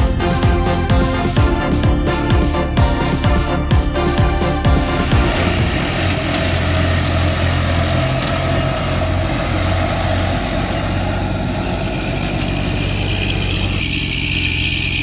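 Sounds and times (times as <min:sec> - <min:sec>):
heavy diesel engine idling: 0:00.0 - 0:15.0.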